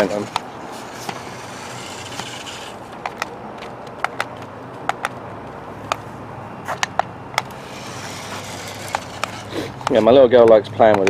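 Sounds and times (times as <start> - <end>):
plastic toy car knocks and clicks: 0.0 - 5.2, 6.8 - 11.0.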